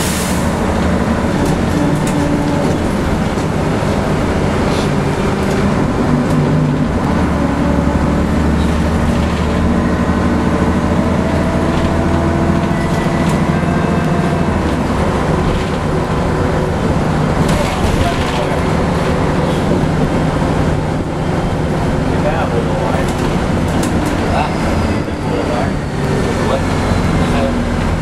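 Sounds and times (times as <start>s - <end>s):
bus diesel engine running: 0.0s - 28.0s
road noise: 0.0s - 28.0s.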